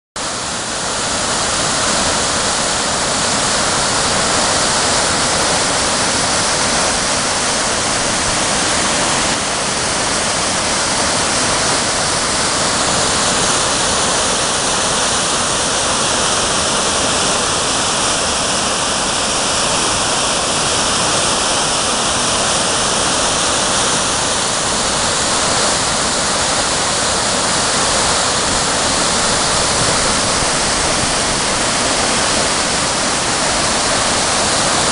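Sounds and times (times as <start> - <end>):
waterfall rushing over boulders: 0.2 - 34.9.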